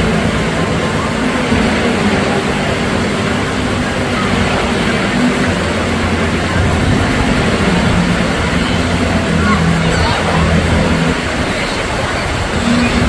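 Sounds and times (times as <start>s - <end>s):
surf churning and splashing: 0.0s - 13.0s.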